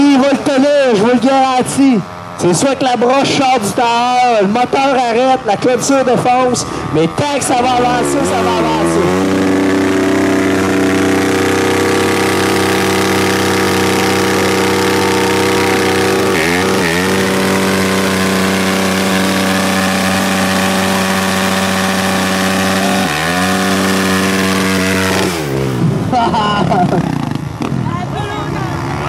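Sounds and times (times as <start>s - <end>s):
dirt bike engine revving: 0.0s - 29.0s
rear tyre spinning: 0.0s - 29.0s.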